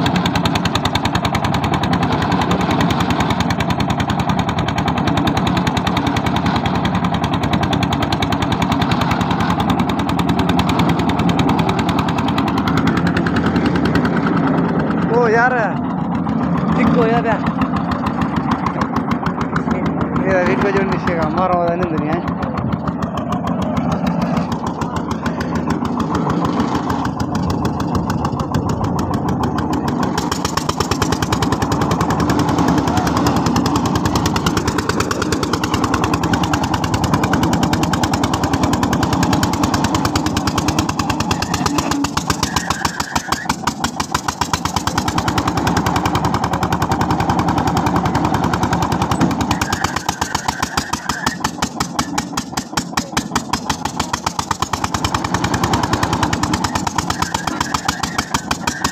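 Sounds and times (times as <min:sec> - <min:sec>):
diesel engine chugging: 0:00.0 - 0:58.9.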